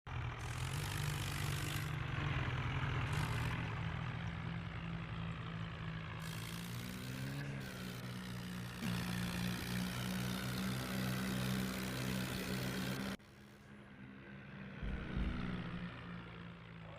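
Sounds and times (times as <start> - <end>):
tractor diesel engine running: 0.1 - 16.9.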